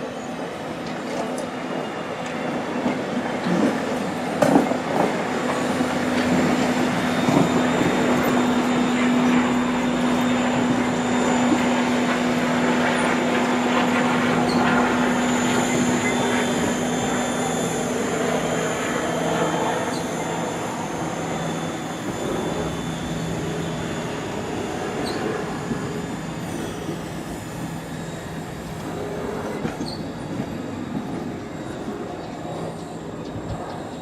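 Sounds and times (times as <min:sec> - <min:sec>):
high squeal of train wheels: 0:00.0 - 0:34.0
train wheels rumbling on rails: 0:00.0 - 0:34.0.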